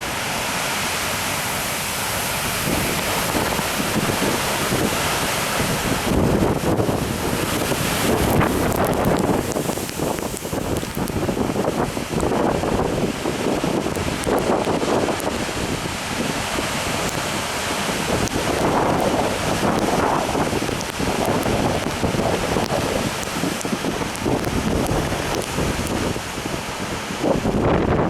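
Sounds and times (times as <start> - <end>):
wind buffeting microphone: 2.4 - 28.0.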